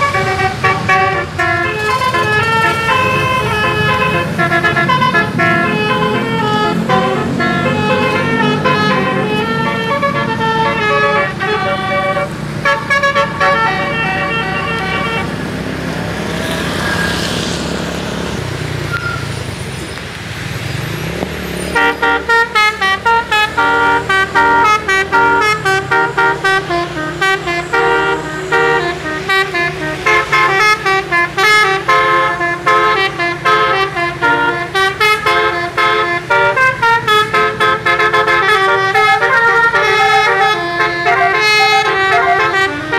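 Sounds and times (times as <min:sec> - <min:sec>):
bus air horn playing tunes: 0:00.0 - 0:15.6, 0:21.7 - 0:42.9
engine and road noise: 0:00.0 - 0:42.9.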